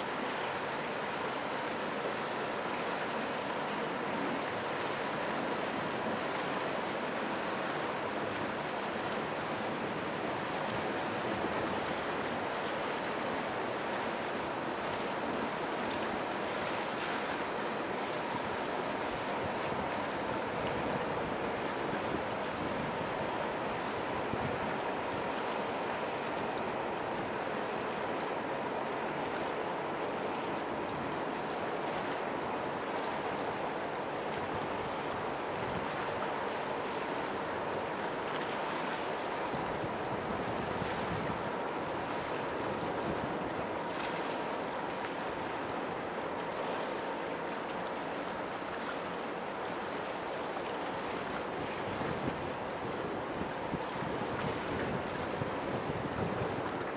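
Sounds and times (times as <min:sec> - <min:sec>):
water at the shore: 0:00.0 - 0:56.9
wind: 0:00.0 - 0:56.9.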